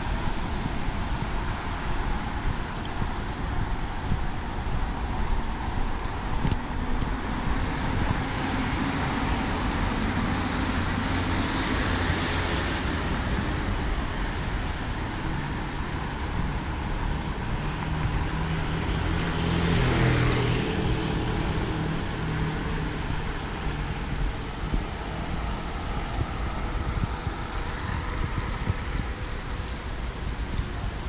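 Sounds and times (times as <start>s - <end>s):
vehicles passing on wet road: 0.0s - 31.0s
wind buffeting microphone: 0.0s - 31.0s.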